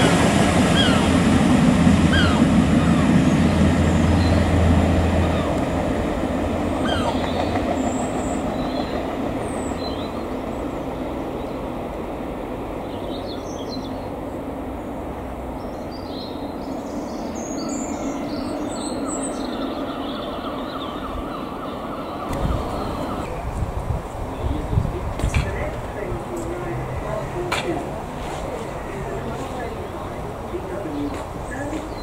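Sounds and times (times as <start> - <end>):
train engines and wheels rumbling: 0.0 - 32.0.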